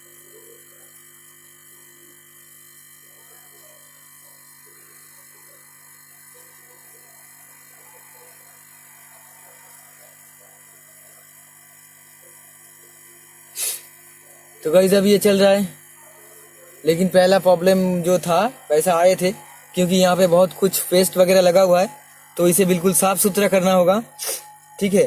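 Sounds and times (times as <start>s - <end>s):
faint indistinct background sounds: 3.0s - 25.0s.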